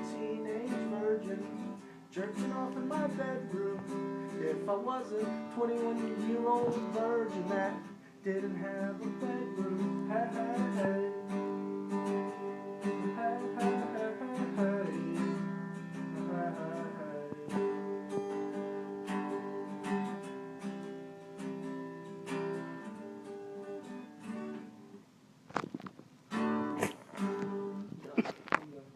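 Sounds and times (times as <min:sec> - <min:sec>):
acoustic guitar strumming chords: 0:00.0 - 0:28.7.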